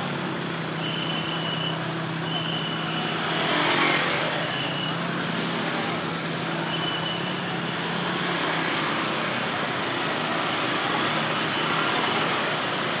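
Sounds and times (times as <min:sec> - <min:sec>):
motor scooter traffic: 0:00.0 - 0:13.0.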